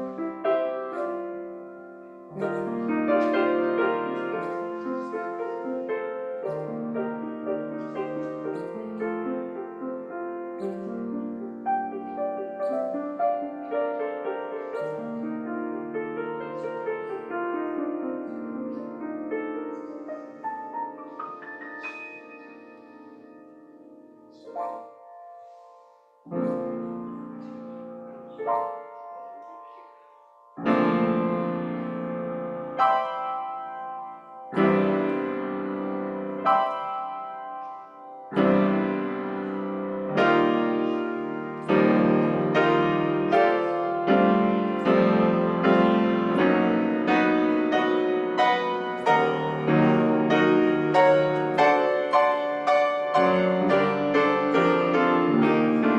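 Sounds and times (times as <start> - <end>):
solo piano chords: 0.0 - 55.9.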